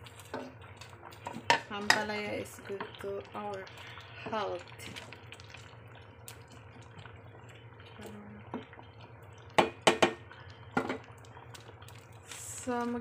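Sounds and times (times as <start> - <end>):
low steady hum: 0.0 - 13.0
wooden spatula stirring soup: 0.0 - 13.0.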